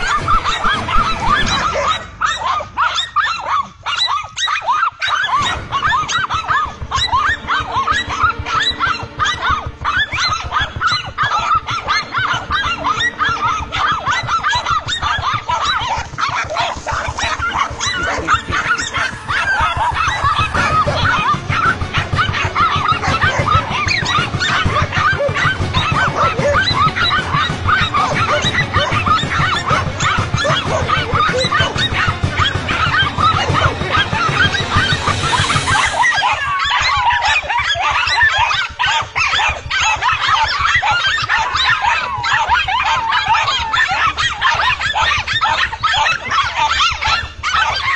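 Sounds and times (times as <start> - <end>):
dogs barking and yelping: 0.0 - 47.9.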